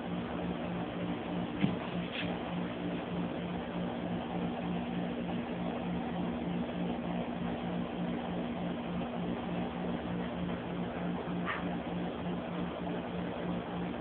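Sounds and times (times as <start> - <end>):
pulsing low hum: 0.0 - 14.0.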